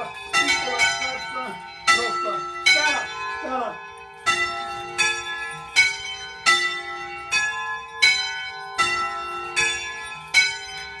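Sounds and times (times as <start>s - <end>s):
church bells ringing: 0.0s - 11.0s.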